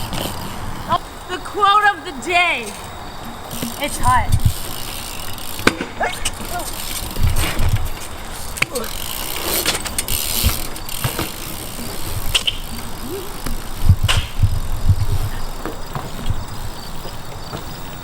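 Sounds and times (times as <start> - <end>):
bike tyres rolling on pavement: 0.0 - 18.0.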